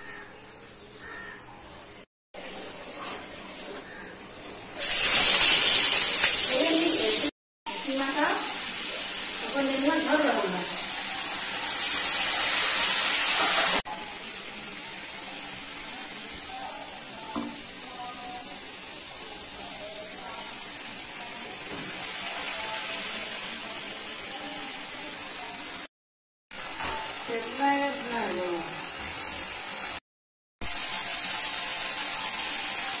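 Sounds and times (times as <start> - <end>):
chicken sizzling in a pan: 4.8 - 25.9, 26.5 - 30.0, 30.6 - 33.0.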